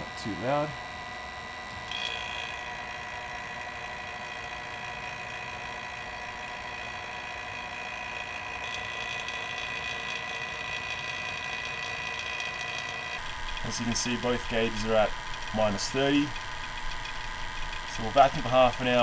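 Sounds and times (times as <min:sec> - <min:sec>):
vacuum pump whining: 0:00.0 - 0:19.0.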